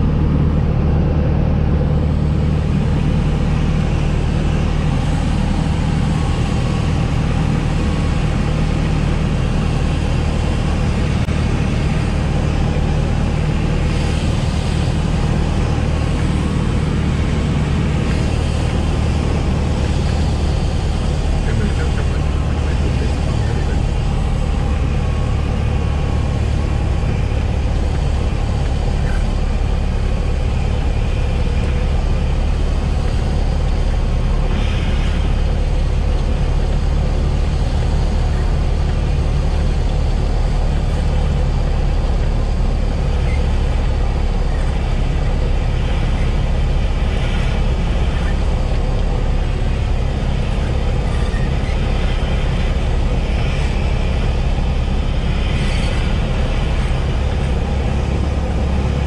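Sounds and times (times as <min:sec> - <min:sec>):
aircraft engine idling drone: 0:00.0 - 0:59.0.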